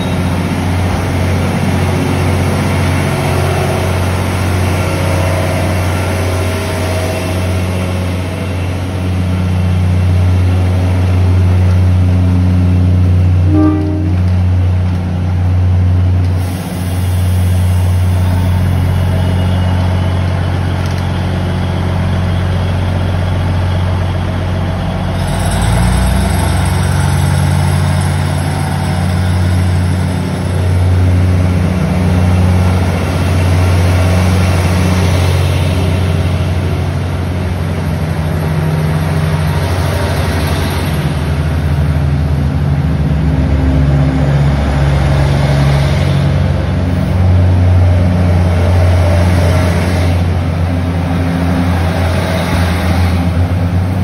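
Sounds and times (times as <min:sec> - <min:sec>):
diesel train engine drone: 0:00.0 - 0:54.0.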